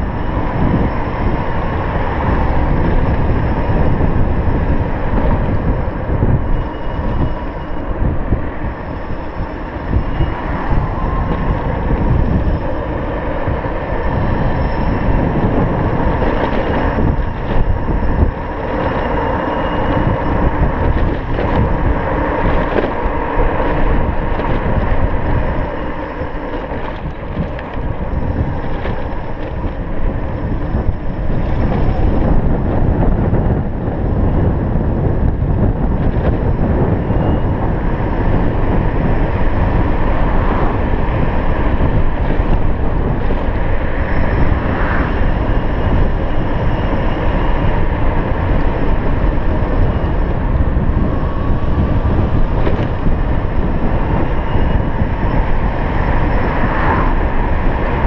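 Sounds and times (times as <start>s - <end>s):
scooter tyre rumble: 0.0s - 58.0s
wind buffeting microphone: 0.0s - 58.0s.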